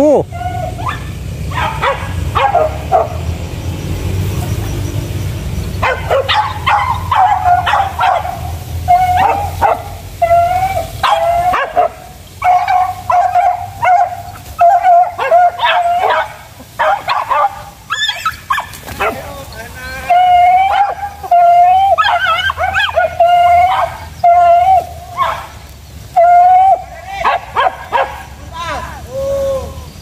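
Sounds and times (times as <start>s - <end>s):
hunting dogs baying: 0.3s - 3.5s, 5.7s - 28.4s.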